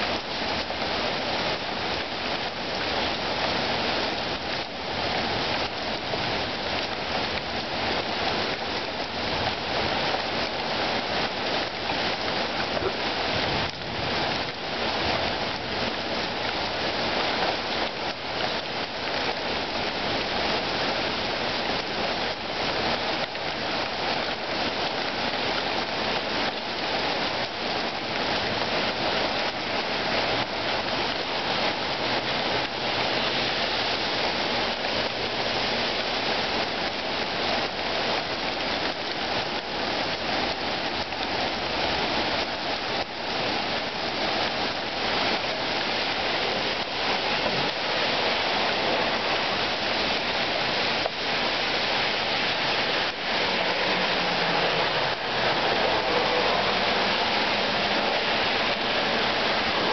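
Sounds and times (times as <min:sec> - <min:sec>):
heavy rain pouring: 0:00.0 - 0:59.9
sharp raindrops striking close: 0:00.0 - 0:59.9.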